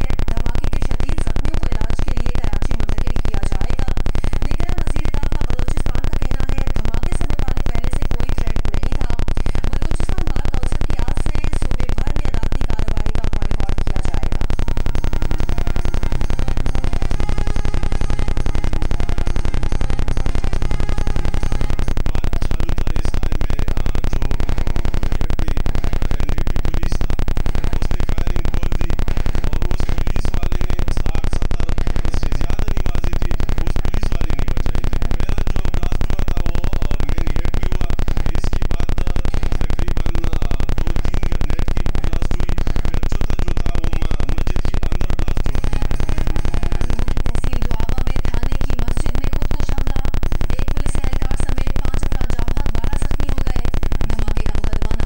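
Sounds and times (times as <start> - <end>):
loud steady low hum: 0.0 - 55.0.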